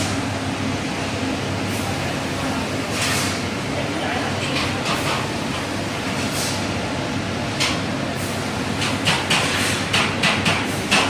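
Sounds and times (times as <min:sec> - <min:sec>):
steady machine hum: 0:00.0 - 0:09.2.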